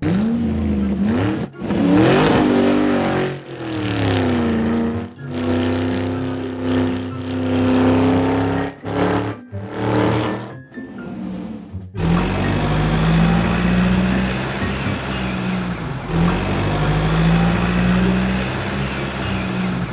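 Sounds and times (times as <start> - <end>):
engine running and revving: 0.0 - 19.9.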